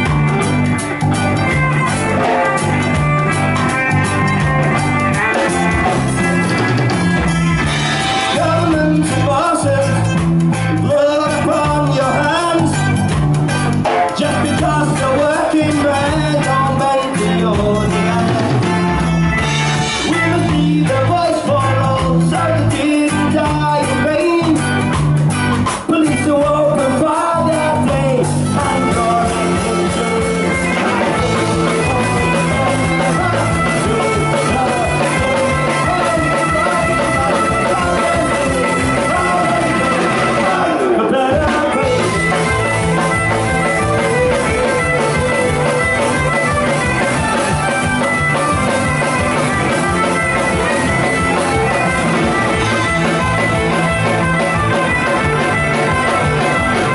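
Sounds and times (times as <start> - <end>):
live folk-punk band: 0.0 - 56.9.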